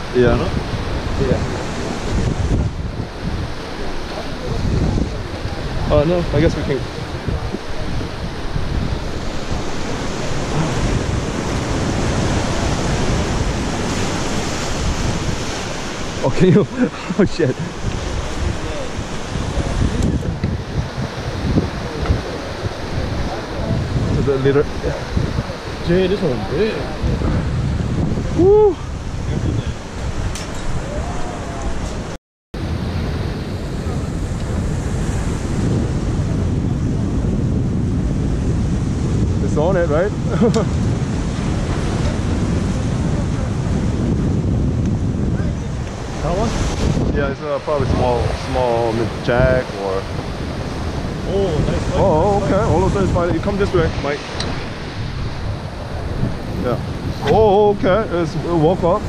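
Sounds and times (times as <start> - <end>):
ocean surf: 0.0 - 59.0
wind rumbling on microphone: 0.0 - 59.0.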